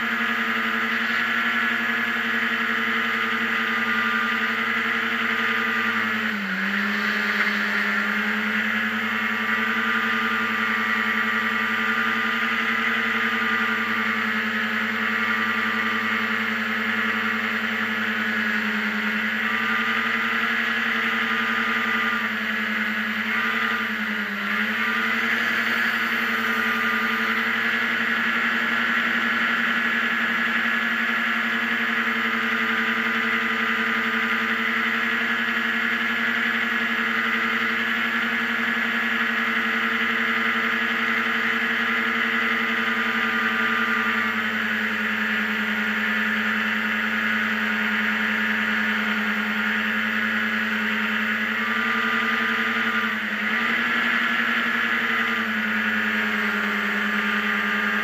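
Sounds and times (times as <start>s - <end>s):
hovercraft engine and fan: 0.0s - 58.0s.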